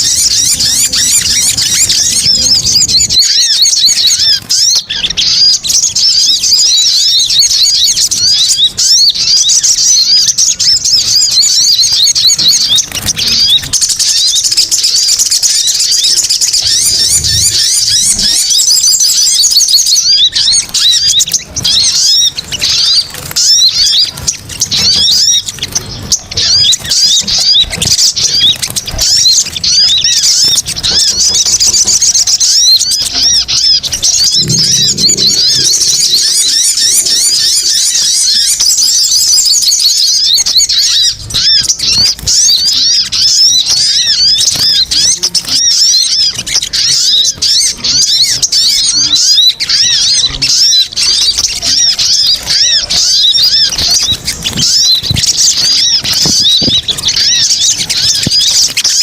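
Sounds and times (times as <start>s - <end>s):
birds chattering chirps: 0.0s - 59.0s.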